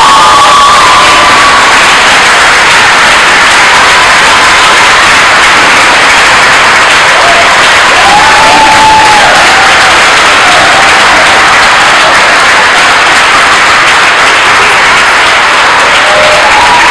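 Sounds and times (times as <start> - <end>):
whoops: 0.0 - 12.4, 15.8 - 16.9
audience clapping and cheering: 0.0 - 16.9.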